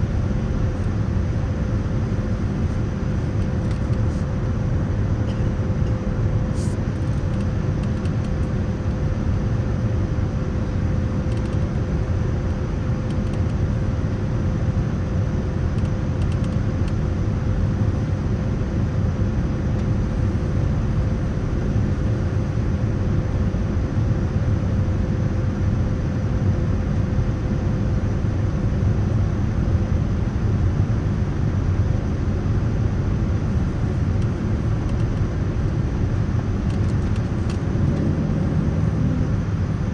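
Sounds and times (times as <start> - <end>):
airplane cabin rumble: 0.0 - 39.9
faint steady hum: 0.0 - 39.9.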